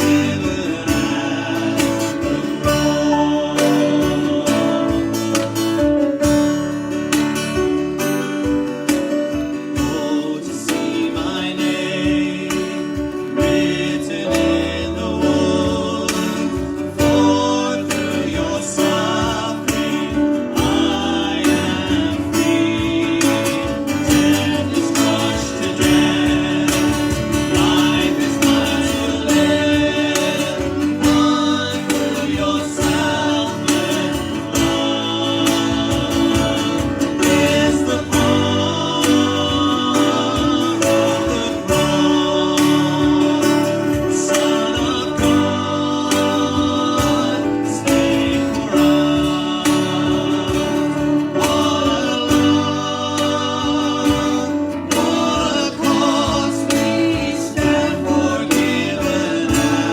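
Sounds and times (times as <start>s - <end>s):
person singing worship song: 0.0s - 7.3s, 9.3s - 59.9s
strummed acoustic guitar: 0.0s - 59.9s.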